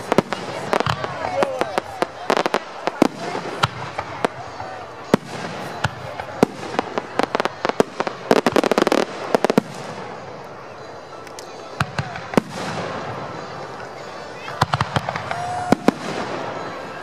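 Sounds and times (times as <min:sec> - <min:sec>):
rapid fireworks pops: 0:00.0 - 0:10.5, 0:11.3 - 0:13.6, 0:14.4 - 0:17.0
fireworks bursting: 0:00.0 - 0:17.0.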